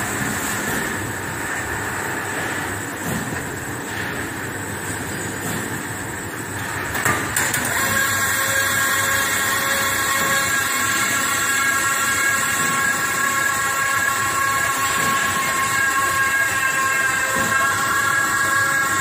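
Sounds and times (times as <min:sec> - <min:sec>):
dough sheeting machine humming: 0:00.0 - 0:19.0.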